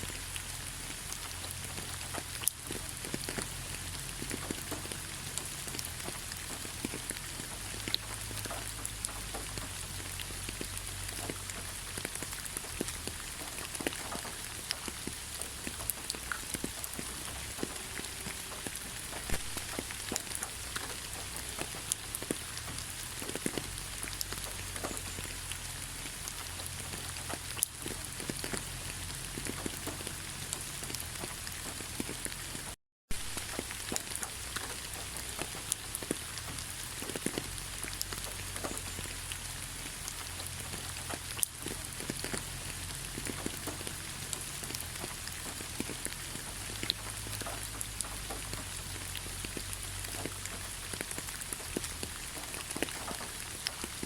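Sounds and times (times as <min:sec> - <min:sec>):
rain hiss: 0:00.0 - 0:54.0
raindrops ticking: 0:00.0 - 0:54.0.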